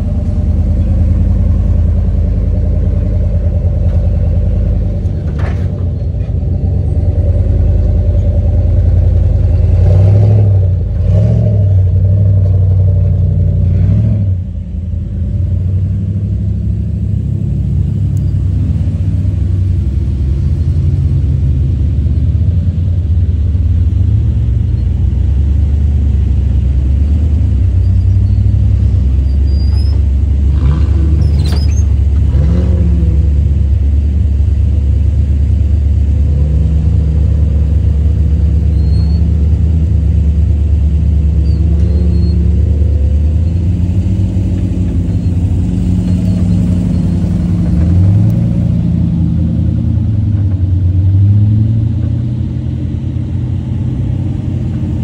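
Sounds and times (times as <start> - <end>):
low rumble: 0.0 - 55.0
vehicle engine running: 0.0 - 55.0.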